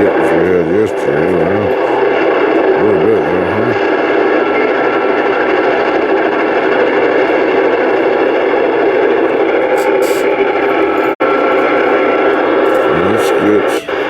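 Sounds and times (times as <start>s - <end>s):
radio static: 0.0s - 14.0s.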